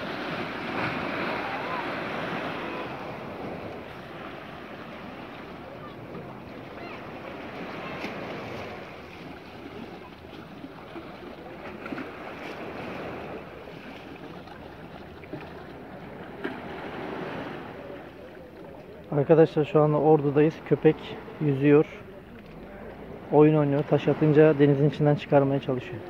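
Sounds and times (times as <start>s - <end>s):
small waves washing onto shore: 0.0s - 26.0s.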